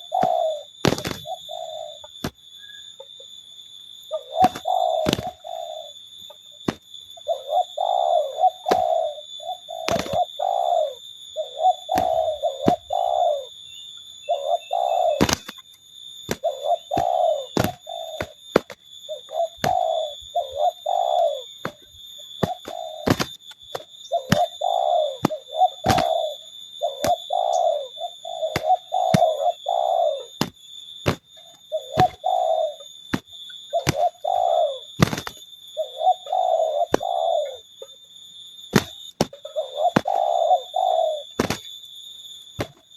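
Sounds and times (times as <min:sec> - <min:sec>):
doves cooing: 0:00.0 - 0:02.4, 0:04.0 - 0:38.0, 0:38.8 - 0:41.8.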